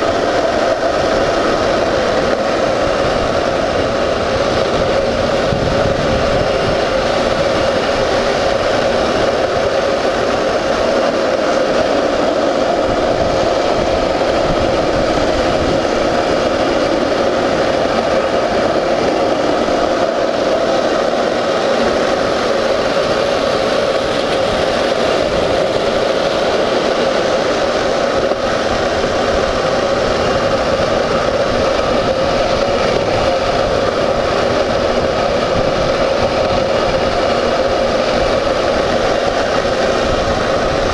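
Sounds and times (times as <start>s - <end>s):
cart wheels rolling on asphalt: 0.0s - 40.9s.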